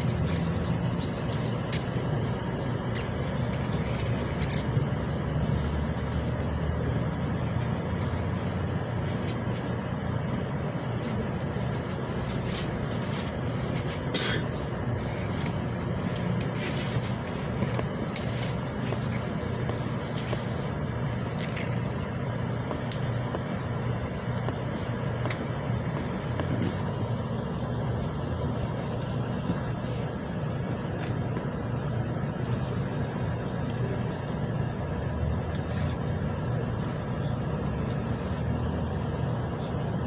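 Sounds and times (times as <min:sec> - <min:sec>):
diesel bus engine idling: 0:00.0 - 0:40.0.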